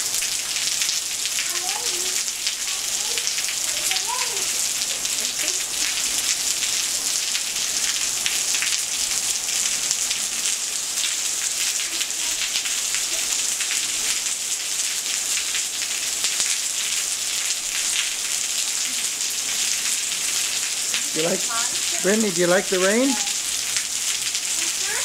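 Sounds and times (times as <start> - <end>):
rain on concrete and gravel: 0.0 - 25.0.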